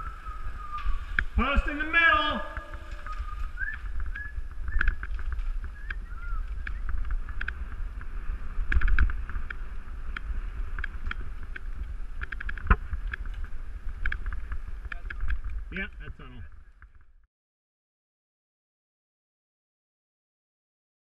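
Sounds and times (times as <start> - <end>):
wind buffeting microphone: 0.0 - 17.0
low road rumble: 0.0 - 17.3.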